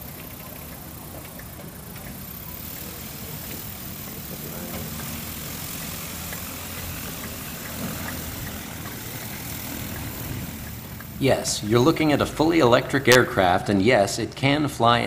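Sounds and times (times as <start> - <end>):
light airplane propeller taxiing: 0.0 - 15.0.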